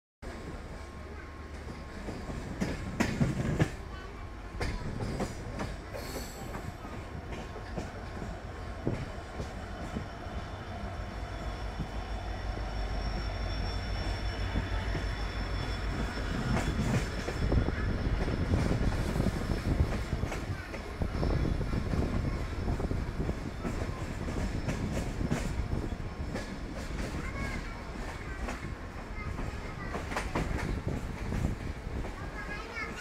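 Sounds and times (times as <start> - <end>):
train running rumble: 0.2 - 33.0.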